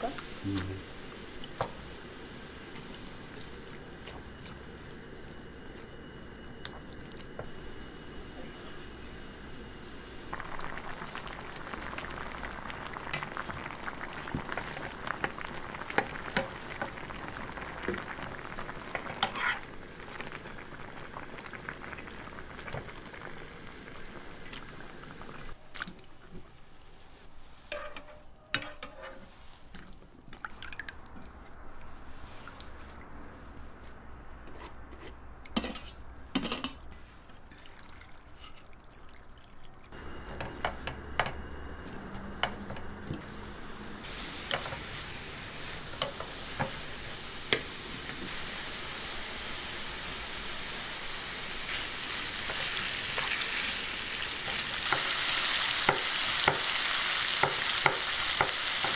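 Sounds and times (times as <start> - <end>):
water boiling in a frying pan: 0.0 - 27.8, 37.4 - 58.9.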